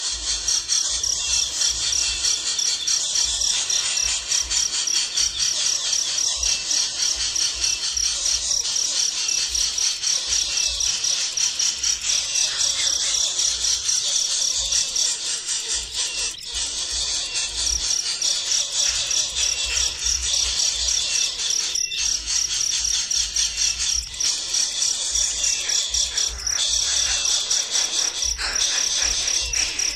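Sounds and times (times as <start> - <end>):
insects chirping: 0.0 - 29.9.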